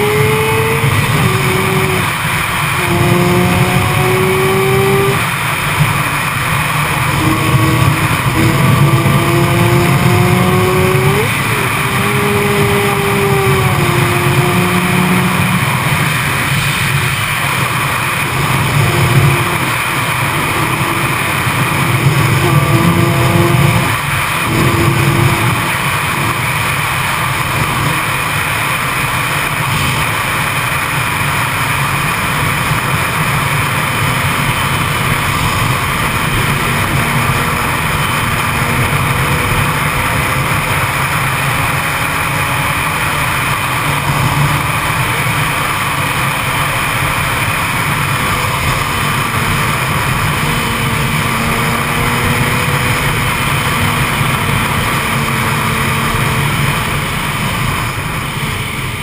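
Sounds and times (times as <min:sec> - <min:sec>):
motorcycle engine at high speed: 0:00.0 - 0:59.0.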